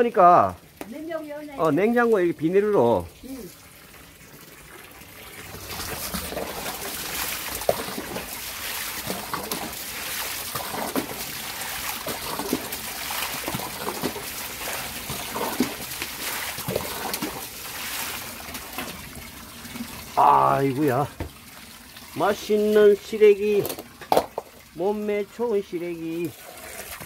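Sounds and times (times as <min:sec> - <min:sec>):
running water splashing into basin: 0:00.0 - 0:27.0.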